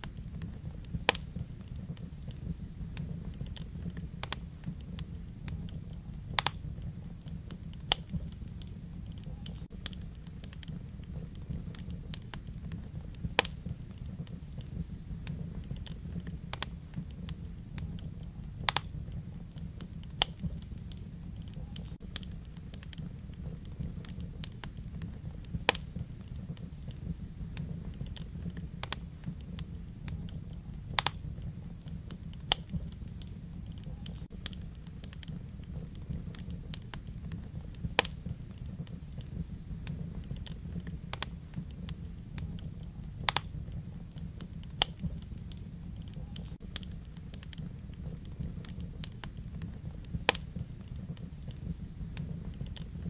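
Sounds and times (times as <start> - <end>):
fire flames rumbling: 0.0 - 53.0
logs crackling and popping: 0.0 - 53.0.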